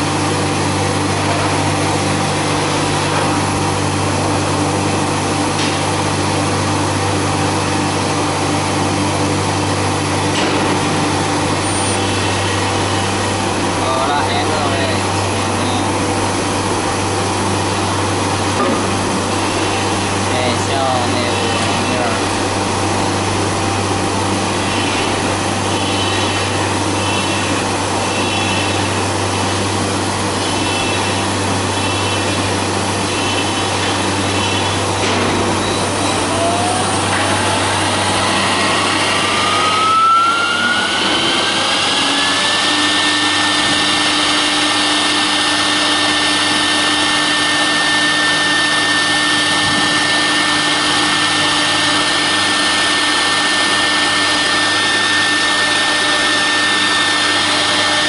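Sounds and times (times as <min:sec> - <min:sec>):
machine noise with low hum: 0:00.0 - 0:58.0
router spindle whine: 0:11.0 - 0:58.0.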